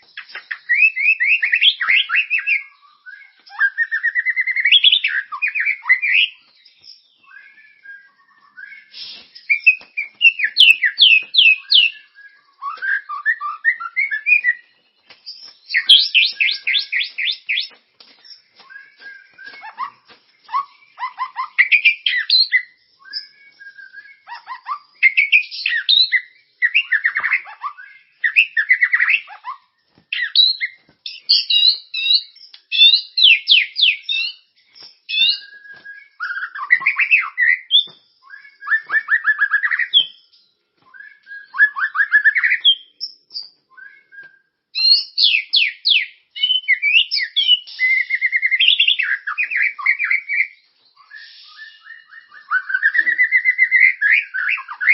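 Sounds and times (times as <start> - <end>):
songbird whistles and trills: 0.0 - 54.9.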